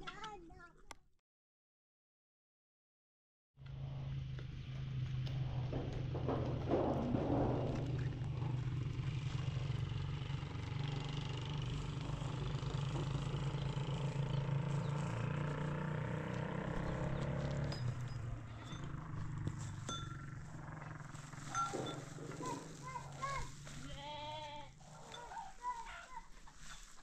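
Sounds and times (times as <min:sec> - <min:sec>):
vehicle engine running: 0:03.6 - 0:26.9.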